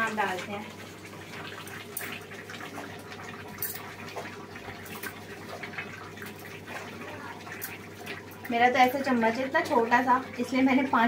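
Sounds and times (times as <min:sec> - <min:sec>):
chicken simmering and bubbling: 0:00.0 - 0:11.0.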